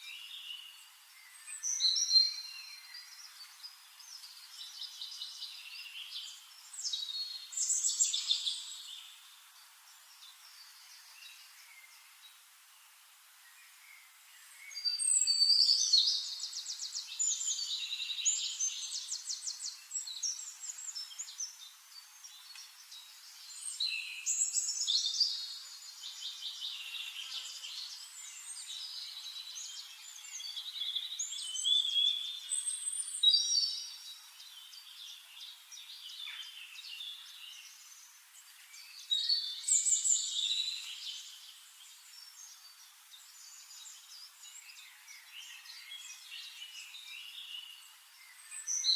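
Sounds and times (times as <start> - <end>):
faint steady hiss: 0.0 - 48.9.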